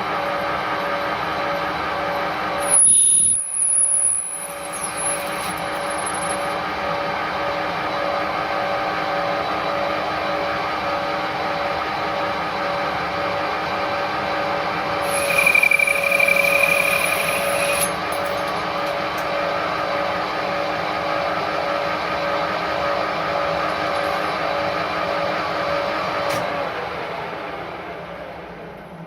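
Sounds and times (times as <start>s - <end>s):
high wavering whine: 0.0s - 12.9s, 13.6s - 27.2s
lathe machine hum: 0.0s - 28.8s.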